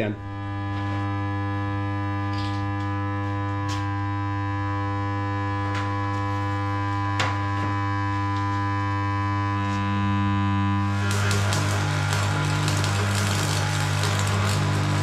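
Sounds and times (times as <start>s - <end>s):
arc welder humming: 0.0s - 15.0s.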